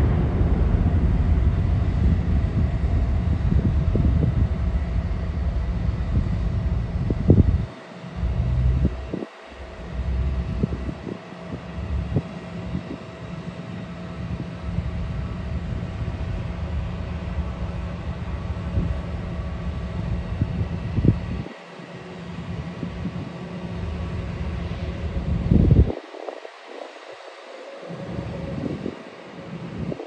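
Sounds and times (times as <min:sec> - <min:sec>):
wind buffeting microphone: 0:00.0 - 0:21.6, 0:22.3 - 0:30.0
jet engines humming: 0:00.0 - 0:30.0.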